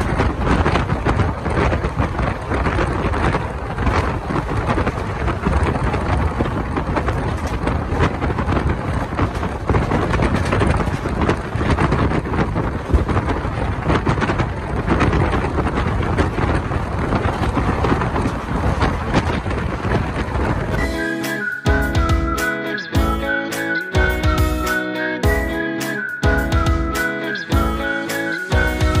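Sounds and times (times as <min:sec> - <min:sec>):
moving train rumble and clatter: 0:00.0 - 0:29.0
wind buffeting microphone: 0:00.0 - 0:29.0.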